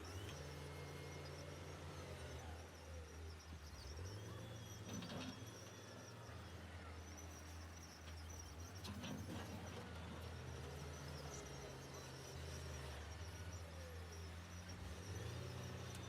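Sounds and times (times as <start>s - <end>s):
distant diesel engines running: 0.0s - 16.0s.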